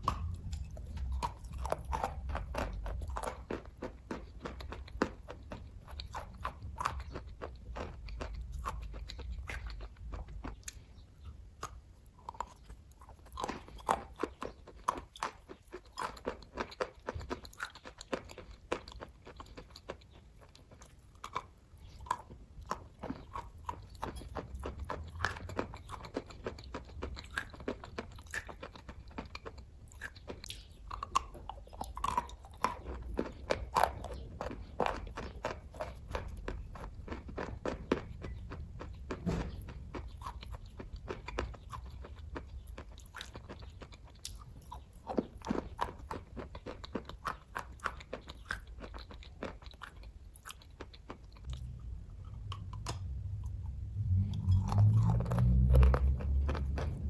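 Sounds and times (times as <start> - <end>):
chewing with mouth clicks: 0.0 - 57.0.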